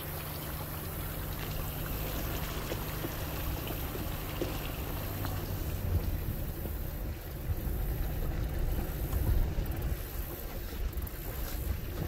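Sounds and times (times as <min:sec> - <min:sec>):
engine rumble: 0:00.0 - 0:12.0
water sloshing around tyres: 0:00.0 - 0:12.0.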